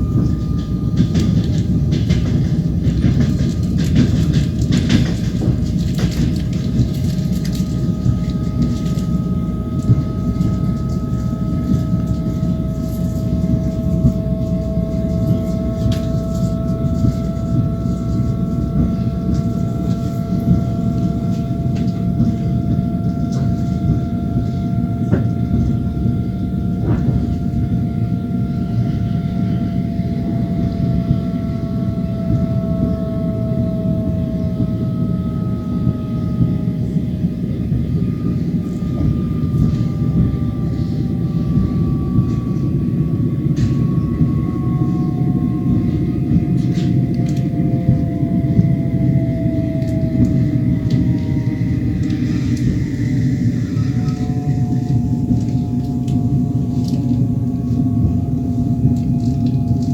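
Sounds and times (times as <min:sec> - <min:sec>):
high whine: 0:00.0 - 0:59.9
train wheels rumbling on rails: 0:00.0 - 0:59.9.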